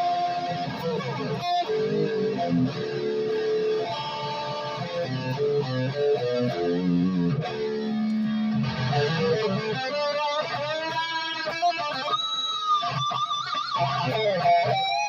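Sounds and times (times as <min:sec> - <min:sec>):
electric guitar lead line: 0:00.0 - 0:15.0.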